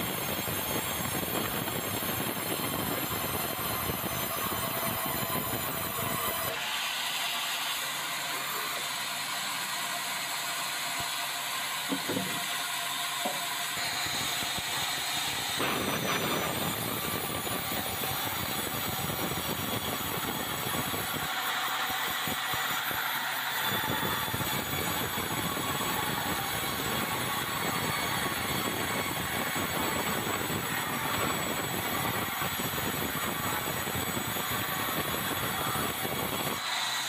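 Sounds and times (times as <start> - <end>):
band saw cutting wood with whine: 0.0 - 37.0.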